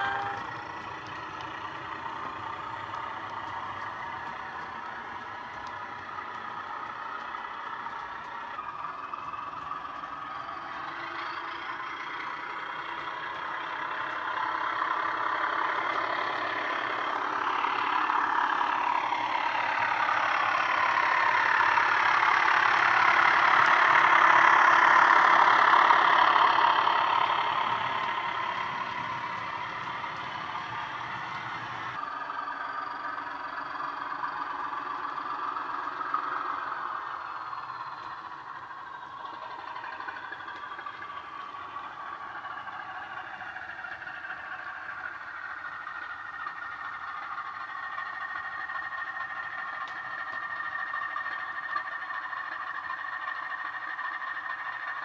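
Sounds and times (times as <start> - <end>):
diesel engine sound from small speaker: 0.0 - 55.0.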